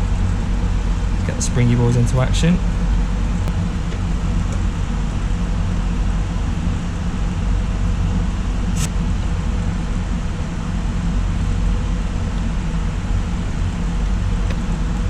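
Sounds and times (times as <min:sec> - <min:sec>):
computer fans whirring: 0:00.0 - 0:15.0.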